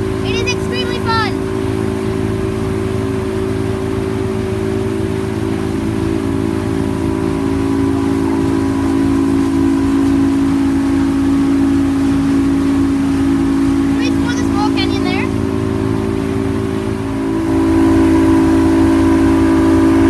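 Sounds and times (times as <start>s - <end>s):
motorboat engine running: 0.0s - 20.0s
wind and water rushing: 0.0s - 20.0s.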